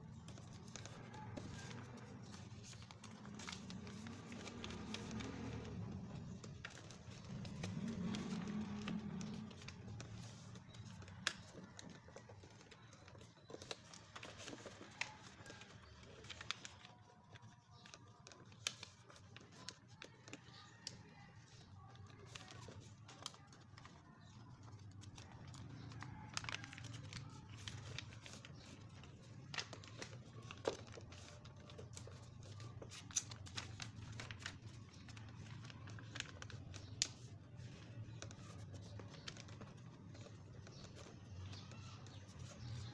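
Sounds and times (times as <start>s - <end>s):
paper rustling and crinkling: 0.0s - 42.9s.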